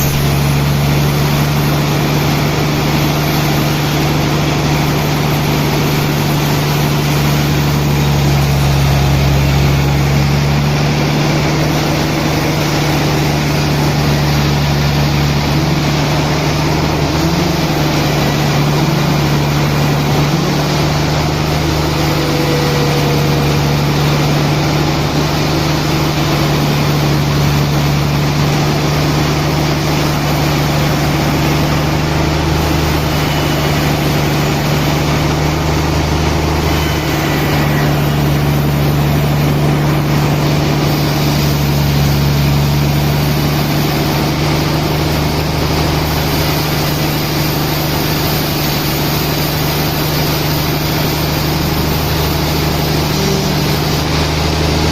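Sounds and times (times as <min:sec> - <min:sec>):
sawmill machinery motor drone: 0:00.0 - 0:54.9.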